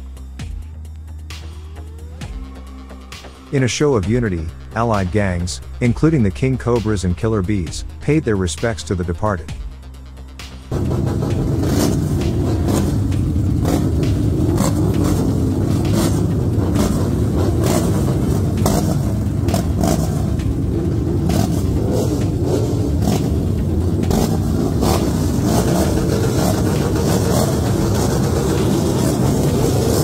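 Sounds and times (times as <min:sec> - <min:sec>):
motorcycle engines rumbling: 0:03.3 - 0:09.8, 0:10.6 - 0:30.0.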